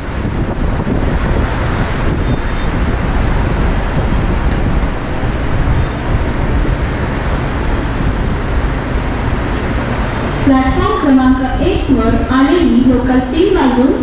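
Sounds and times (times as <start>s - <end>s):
electric train approaching: 0.0s - 14.0s.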